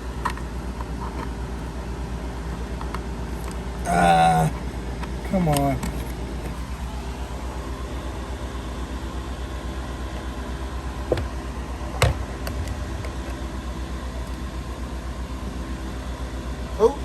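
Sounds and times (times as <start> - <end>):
fluttering electrical hum: 0.0 - 16.8.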